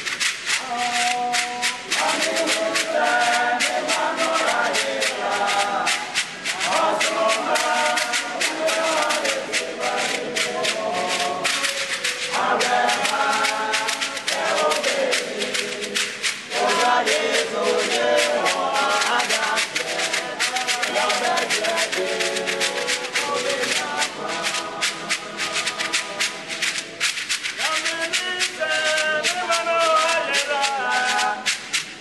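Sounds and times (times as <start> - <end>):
gourd rattles shaking: 0.0 - 32.0
men singing a chant-like hymn: 0.5 - 26.9, 27.6 - 31.6.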